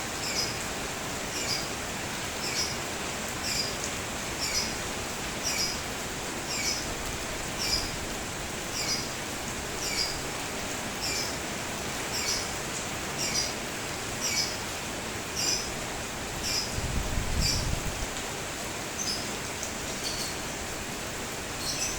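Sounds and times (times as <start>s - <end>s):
steady rain: 0.0s - 21.9s.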